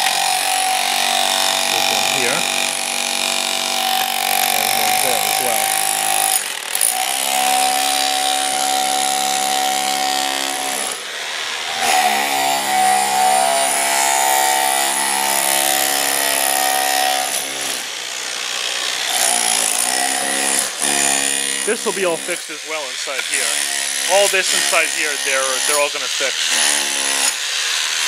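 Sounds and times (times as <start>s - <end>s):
power tool whining: 0.0s - 28.0s.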